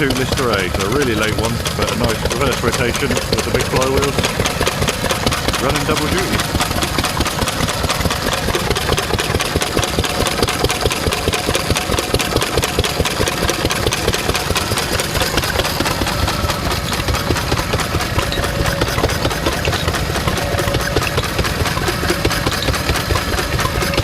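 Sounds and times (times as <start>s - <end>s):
stationary engine idling: 0.0s - 24.0s.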